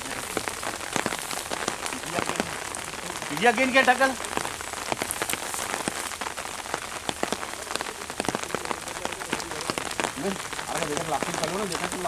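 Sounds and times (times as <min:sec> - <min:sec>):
raindrops ticking: 0:00.0 - 0:12.0
steady rain: 0:00.0 - 0:12.0.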